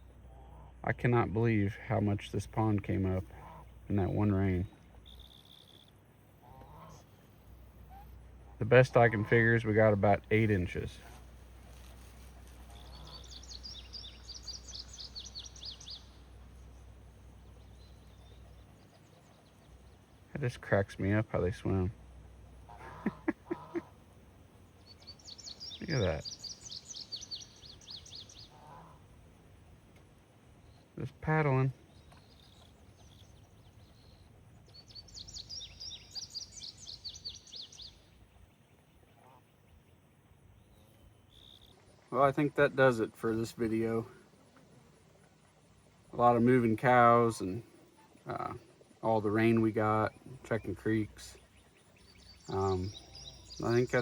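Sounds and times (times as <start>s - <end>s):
faint low outdoor rumble: 0.0s - 54.0s
songbird twittering: 1.9s - 54.0s.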